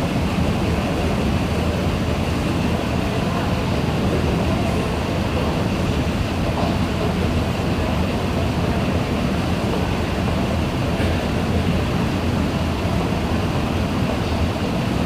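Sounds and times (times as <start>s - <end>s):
train running rumble and hiss: 0.0s - 15.0s.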